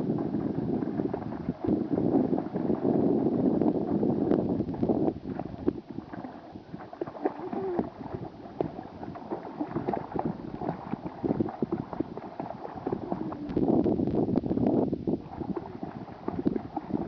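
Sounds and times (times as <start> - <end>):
pool water splashing: 0.0 - 13.9, 15.1 - 17.0.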